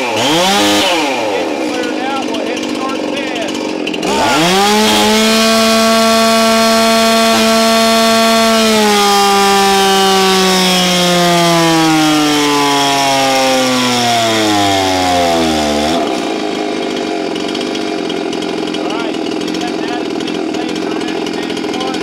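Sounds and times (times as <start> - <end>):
chainsaw at full throttle: 0.0 - 22.0.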